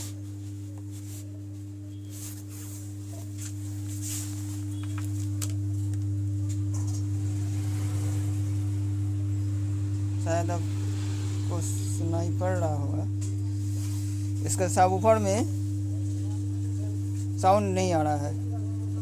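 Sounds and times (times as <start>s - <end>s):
subwoofer low hum: 0.0s - 19.0s.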